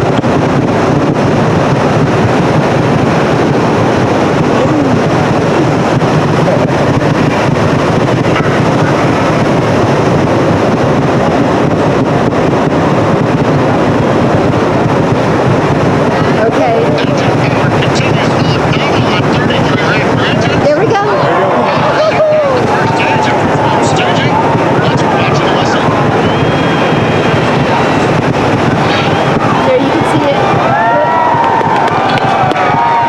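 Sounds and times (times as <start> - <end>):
wind noise on microphone: 0.0 - 33.0.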